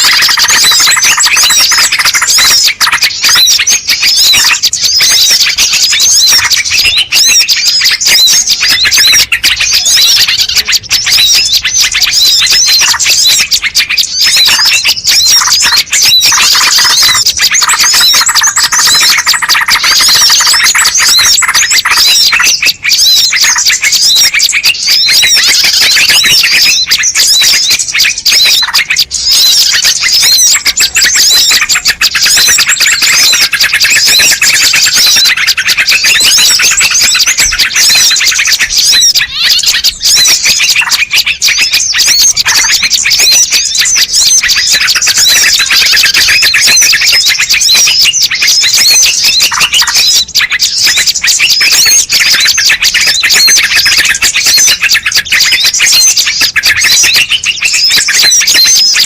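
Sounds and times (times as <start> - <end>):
flock of songbirds chirping: 0.0 - 59.0.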